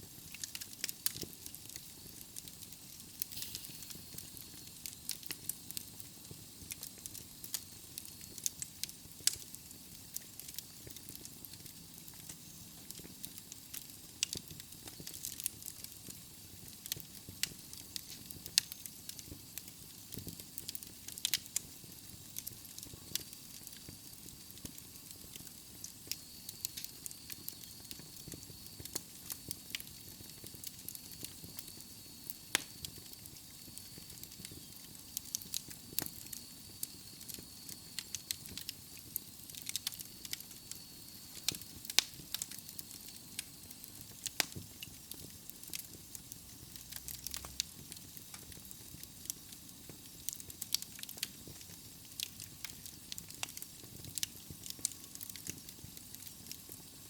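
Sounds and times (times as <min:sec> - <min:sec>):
logs crackling and popping: 0:00.3 - 0:57.0.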